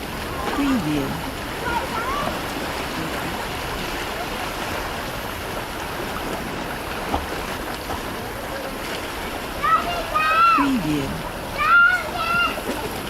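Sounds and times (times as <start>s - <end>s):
surf washing: 0.0s - 13.0s.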